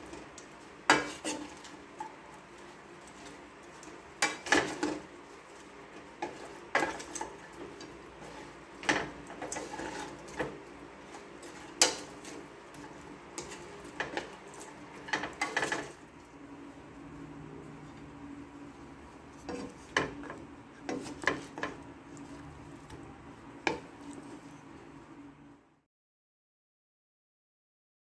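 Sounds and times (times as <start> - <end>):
plastic spatula scraping a wok: 0.0 - 25.2.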